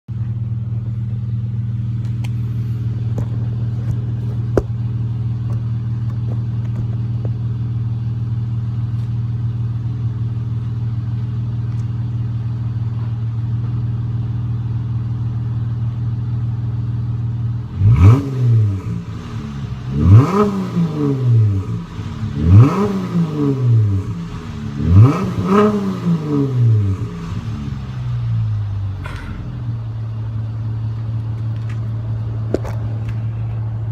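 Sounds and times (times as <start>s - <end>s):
car exhaust idling and revving: 0.1s - 33.9s.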